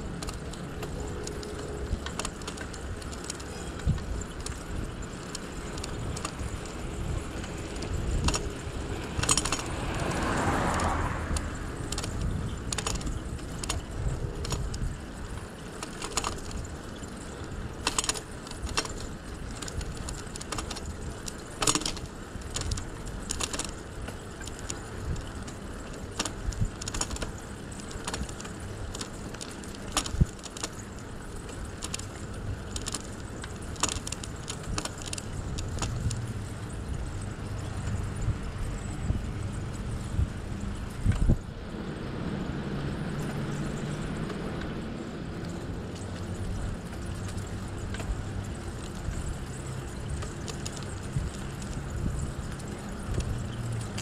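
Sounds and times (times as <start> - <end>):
bicycle parts rattling: 0.0 - 41.5, 43.2 - 54.0
rumble of tyres and wind: 0.0 - 54.0.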